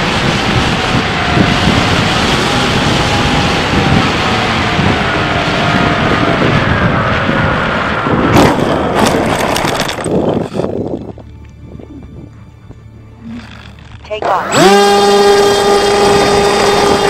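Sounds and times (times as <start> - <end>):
electric motor whine: 0.0 - 8.9, 10.4 - 17.0
wind rushing over camera: 0.0 - 17.0.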